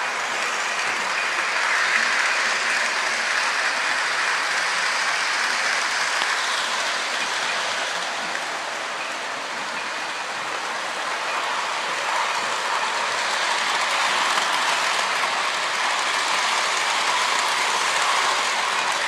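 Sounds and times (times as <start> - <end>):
model train wheels on rails: 0.0 - 19.0.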